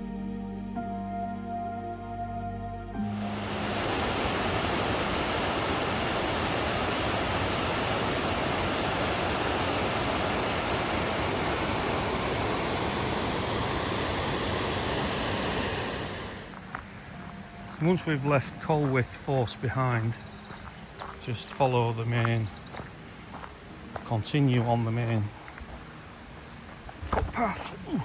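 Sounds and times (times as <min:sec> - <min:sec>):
waterfall rushing: 0:03.0 - 0:28.0.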